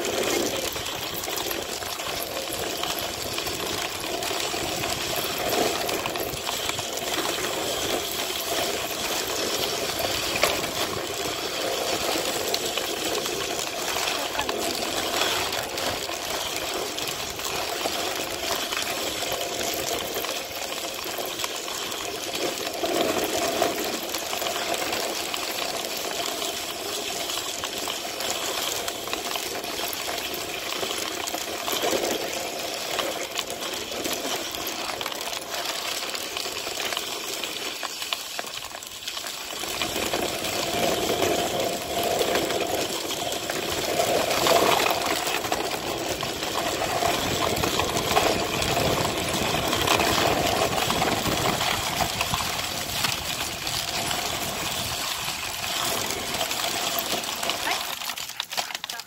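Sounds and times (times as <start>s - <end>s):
sled runners hissing on snow: 0.0s - 57.8s.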